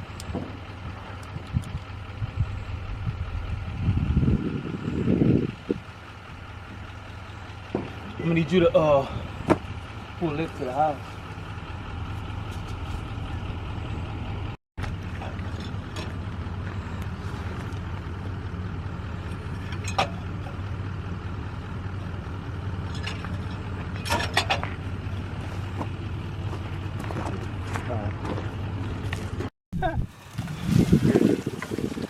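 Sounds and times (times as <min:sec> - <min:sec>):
farm machine engine droning: 0:00.0 - 0:32.0.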